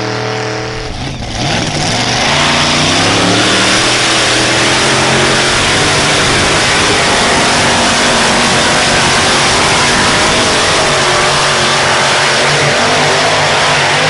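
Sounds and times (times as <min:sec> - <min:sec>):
engine at full throttle: 0:00.0 - 0:14.0.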